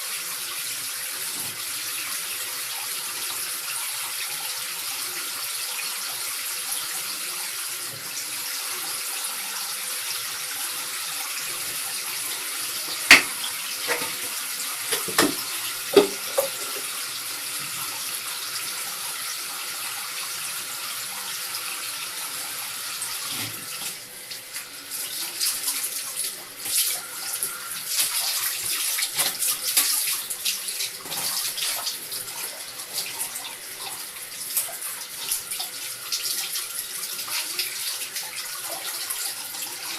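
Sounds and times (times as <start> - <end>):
tap water running: 0.0 - 39.9.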